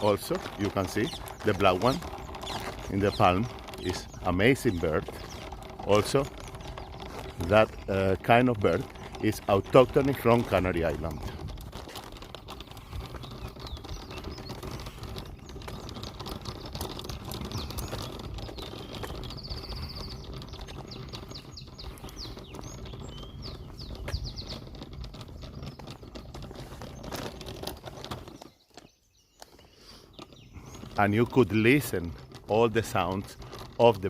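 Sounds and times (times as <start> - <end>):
songbirds chirping and singing: 0.0 - 34.0.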